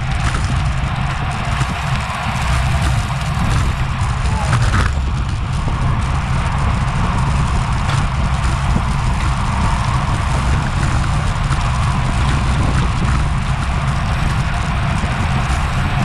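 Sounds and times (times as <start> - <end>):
tyre and road noise hiss: 0.0 - 16.0
wind buffeting microphone: 0.0 - 16.0.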